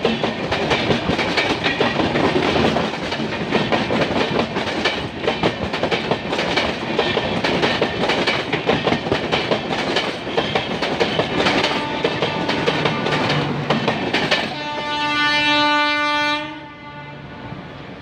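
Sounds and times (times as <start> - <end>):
train wheels clattering over rail joints: 0.0 - 14.6
train rumble: 0.0 - 18.0.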